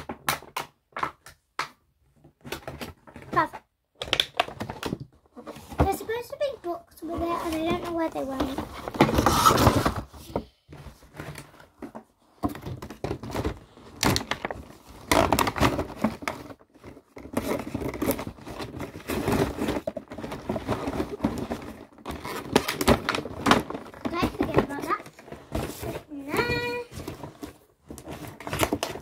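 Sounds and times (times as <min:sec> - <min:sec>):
plastic toys and packaging handled: 0:00.0 - 0:29.0.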